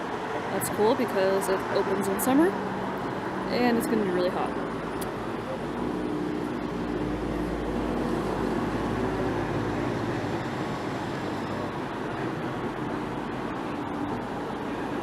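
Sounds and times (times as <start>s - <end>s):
engines and machinery rushing: 1.6s - 14.7s.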